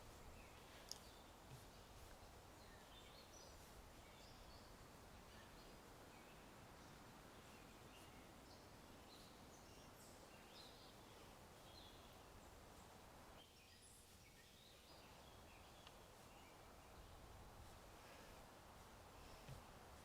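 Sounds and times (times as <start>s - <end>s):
birds chirping: 0.0s - 20.0s
low ambient hum: 0.0s - 20.0s.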